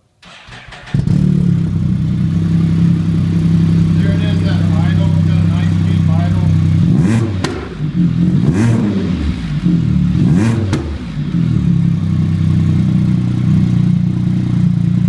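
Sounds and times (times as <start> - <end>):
motorcycle engine revving and idling: 0.6 - 15.0.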